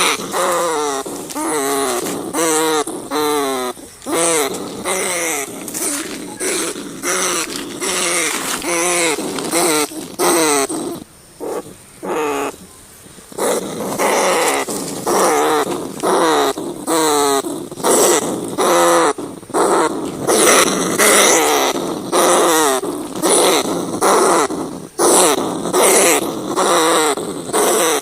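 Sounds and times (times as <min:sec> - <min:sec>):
rats squealing: 0:00.0 - 0:12.7, 0:13.3 - 0:28.0.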